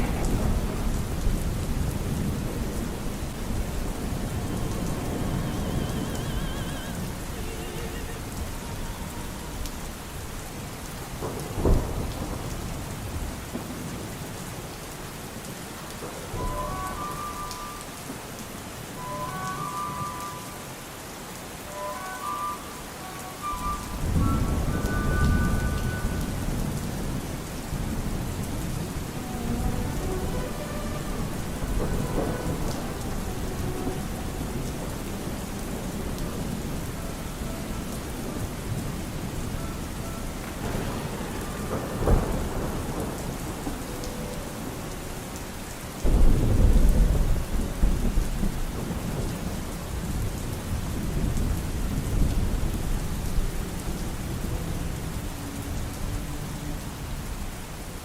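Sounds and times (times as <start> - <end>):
thunder rumble: 0.0 - 20.6, 21.7 - 58.0
heavy rain: 0.0 - 58.0.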